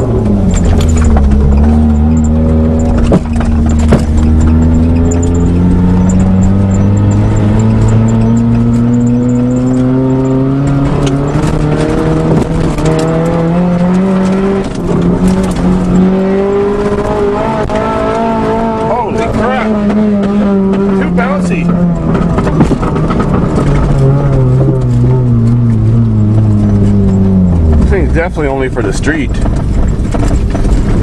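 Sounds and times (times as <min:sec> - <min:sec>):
car engine pulling under load: 0:00.0 - 0:31.0
sharp knocks and rattles: 0:00.0 - 0:31.0.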